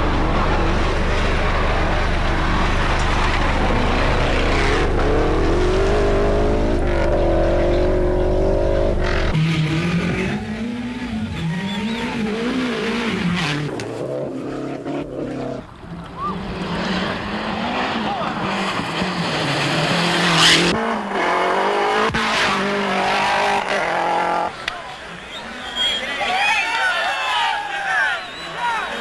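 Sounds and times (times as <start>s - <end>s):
rally car engine revving: 0.0s - 24.6s
road noise: 0.0s - 25.6s.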